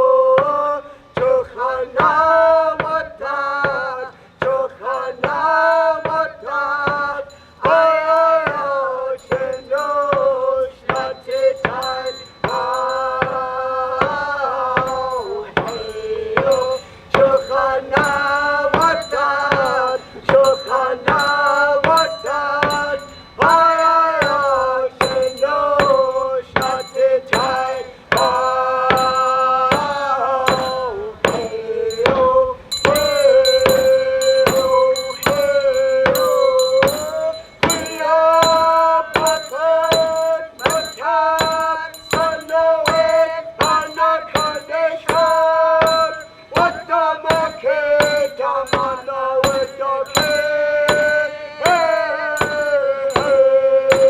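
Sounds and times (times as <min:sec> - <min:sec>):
person singing a chant: 0:00.0 - 0:54.0
steady struck beat: 0:03.7 - 0:54.0.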